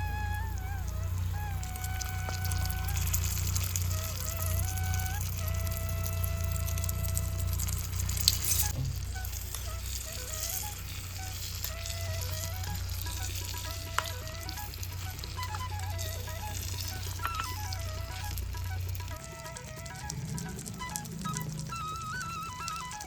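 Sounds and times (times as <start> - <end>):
soft background music: 0.0 - 23.0
food sizzling in a pan: 2.0 - 23.0.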